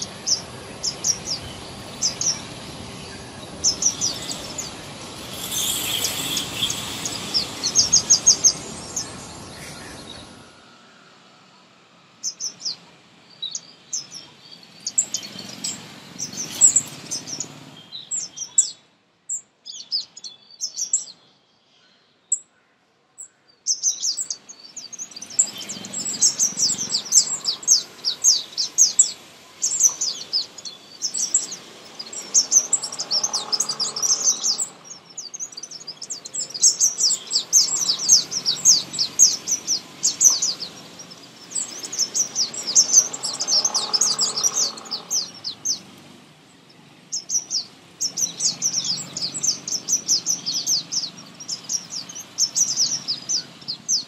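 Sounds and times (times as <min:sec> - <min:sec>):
small birds chirping: 0:00.0 - 0:22.6, 0:23.2 - 0:54.0.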